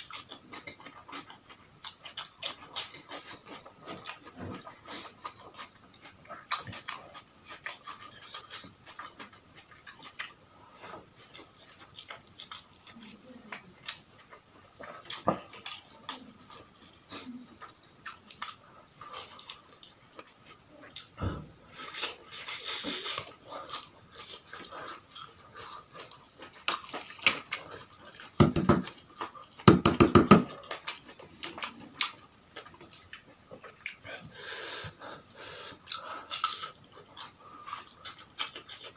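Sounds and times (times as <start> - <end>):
chewing and smacking: 0.0 - 38.9.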